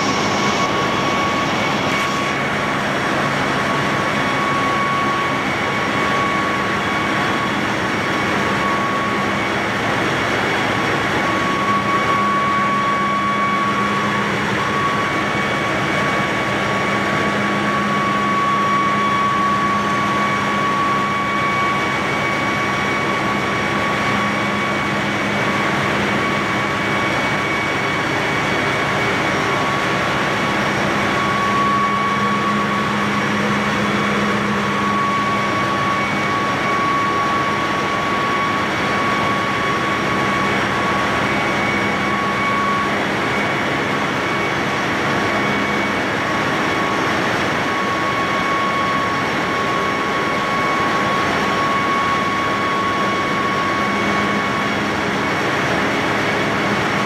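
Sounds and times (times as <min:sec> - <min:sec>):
engine room machinery roaring: 0:00.0 - 0:57.0
high machine whine: 0:00.0 - 0:57.0.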